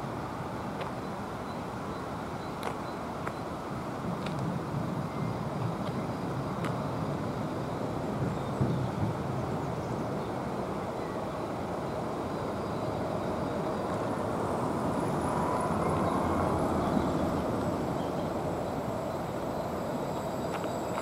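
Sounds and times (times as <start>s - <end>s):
train rumble: 2.7s - 21.0s.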